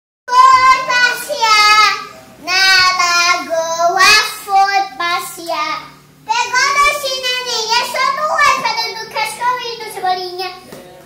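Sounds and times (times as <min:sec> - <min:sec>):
girl singing: 0:00.3 - 0:10.6.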